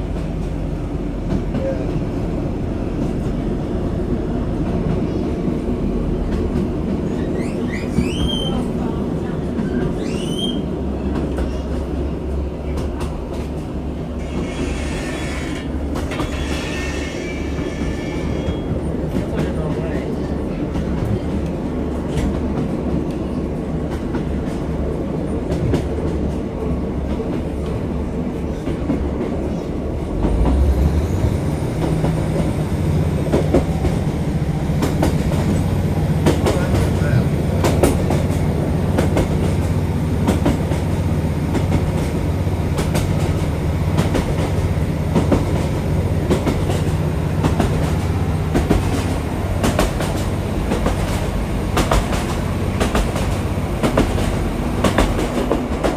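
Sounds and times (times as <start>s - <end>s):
train running along track: 0.0s - 55.9s.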